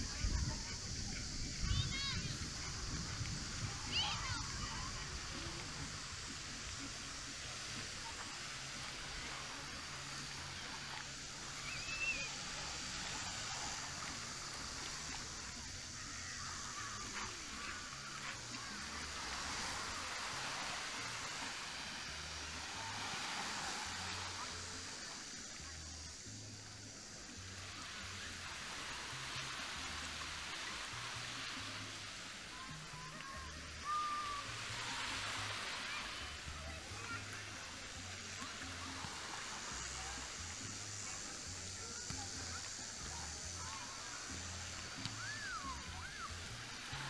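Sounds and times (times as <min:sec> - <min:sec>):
small waves washing on shore: 0:00.0 - 0:47.0.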